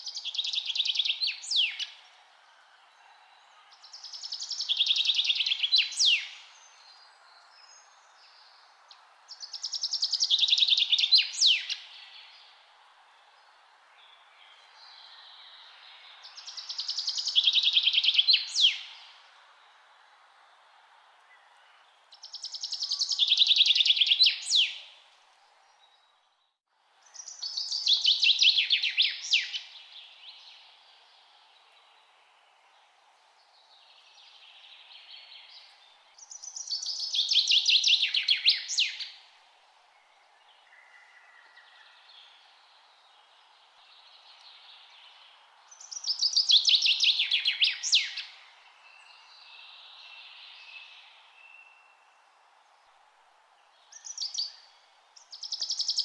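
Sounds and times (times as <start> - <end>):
steady background hiss: 0.0 - 26.0, 26.7 - 56.0.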